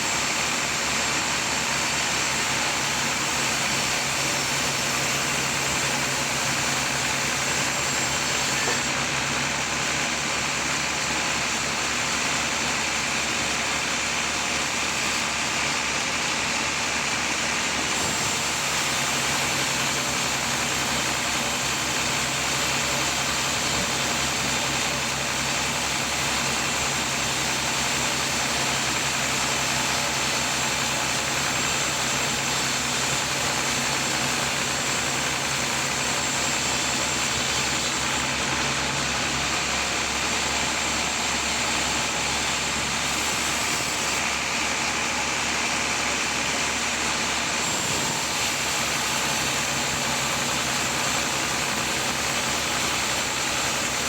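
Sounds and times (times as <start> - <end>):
saw cutting hiss: 0.0 - 11.5, 16.9 - 45.3, 46.4 - 54.0
sawmill motor hum: 0.0 - 54.0.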